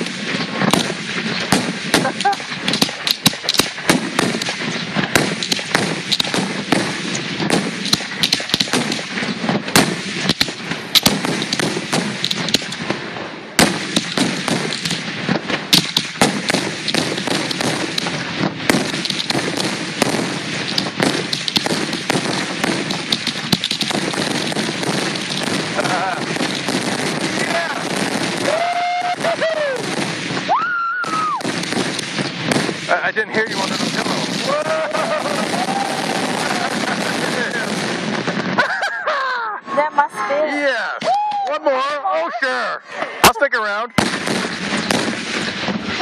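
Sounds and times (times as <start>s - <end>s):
sharp firework bangs: 0.0s - 38.9s, 43.3s - 46.0s
fireworks crackling and bursting: 0.0s - 46.0s.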